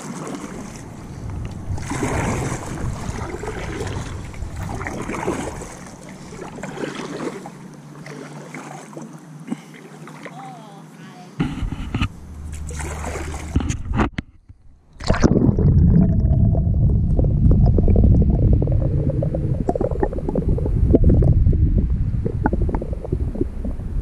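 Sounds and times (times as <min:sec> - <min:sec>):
muffled underwater water rushing: 0:00.0 - 0:10.3, 0:11.4 - 0:24.0.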